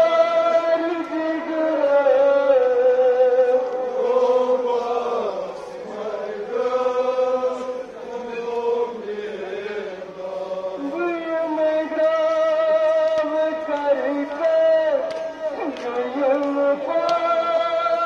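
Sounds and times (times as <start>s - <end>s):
man chanting a lament: 0.0s - 18.0s.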